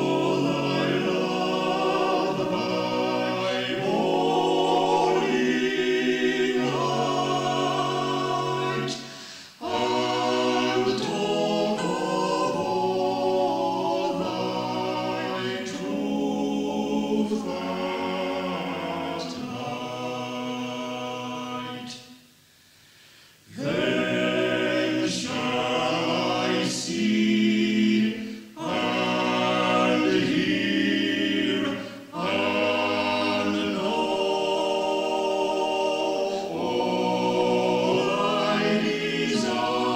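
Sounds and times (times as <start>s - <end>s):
choir singing unaccompanied: 0.0s - 22.2s, 23.4s - 39.9s.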